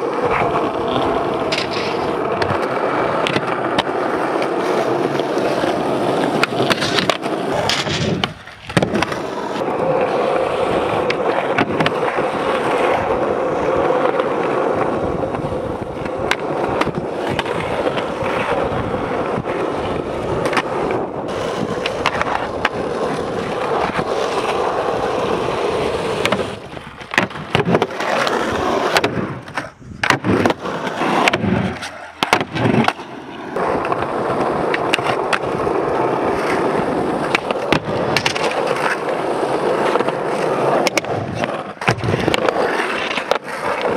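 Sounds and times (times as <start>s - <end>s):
skateboard popping and landing: 0.0s - 43.9s
skateboard wheels rolling on concrete: 0.0s - 43.9s.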